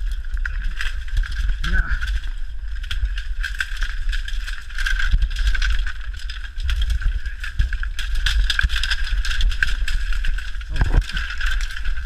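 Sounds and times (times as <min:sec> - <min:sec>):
bamboo canes rustling and snapping: 0:00.0 - 0:12.0
low rumble of camera jostled: 0:00.0 - 0:12.0.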